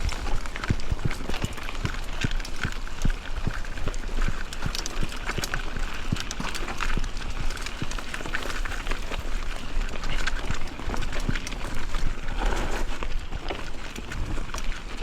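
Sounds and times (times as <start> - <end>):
bike knocking and rattling: 0.0 - 15.0
tyres rustling on ground: 0.0 - 15.0.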